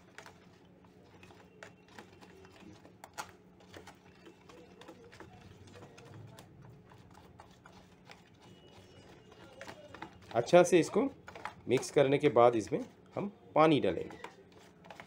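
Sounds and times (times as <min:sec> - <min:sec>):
spoon stirring in plastic tub: 0:00.0 - 0:15.0.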